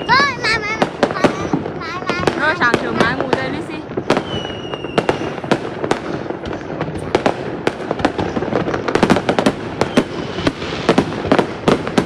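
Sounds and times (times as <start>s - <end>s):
fireworks bangs and cracks: 0.0s - 12.0s
fireworks crackle: 0.0s - 12.0s.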